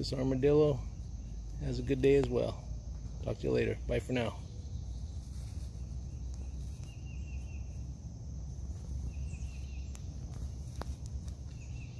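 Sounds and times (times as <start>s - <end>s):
high insect drone: 0.0s - 11.9s.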